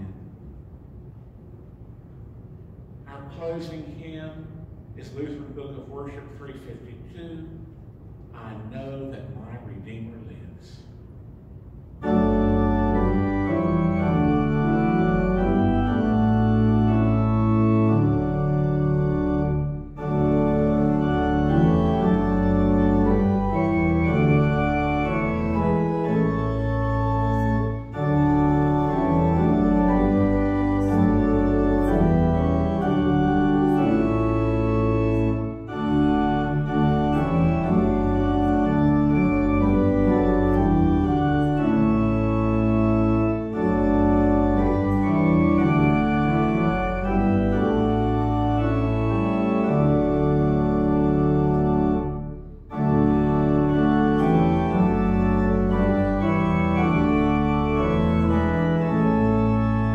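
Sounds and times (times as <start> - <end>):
organ playing hymn chords: 0.0 - 1.0, 2.7 - 10.9, 11.6 - 59.9.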